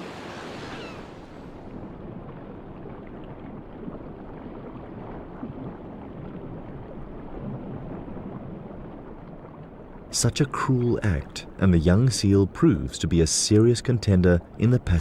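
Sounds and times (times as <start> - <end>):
sea water sloshing: 0.0 - 15.0.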